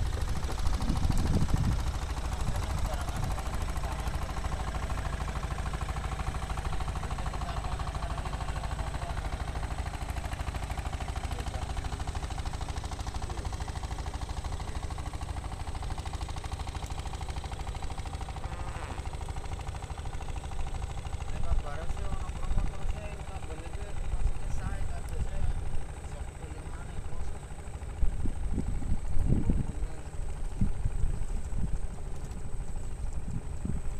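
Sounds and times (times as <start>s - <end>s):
boat engine idling: 0.0s - 33.9s.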